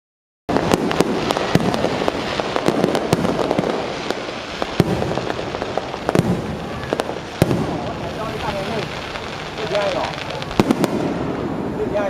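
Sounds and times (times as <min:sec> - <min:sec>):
firework shells bursting: 0:00.5 - 0:11.8
fireworks crackling: 0:00.5 - 0:12.0.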